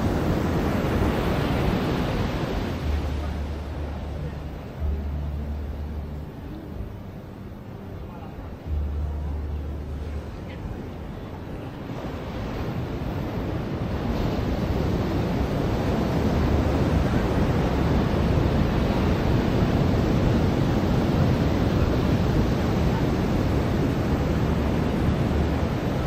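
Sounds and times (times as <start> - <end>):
ocean surf breaking on beach: 0.0 - 8.8, 9.7 - 26.0.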